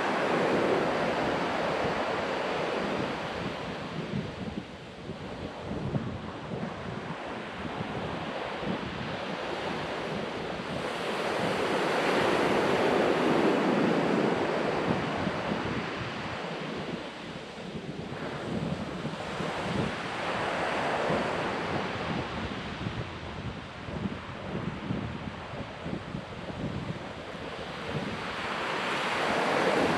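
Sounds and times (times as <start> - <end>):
ocean surf on sandy beach: 0.0 - 29.9
wind gusts on microphone: 0.0 - 29.9.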